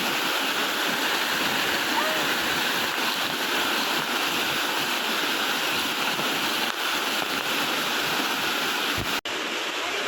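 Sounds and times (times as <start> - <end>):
waterfall rushing and splashing: 0.0 - 10.0.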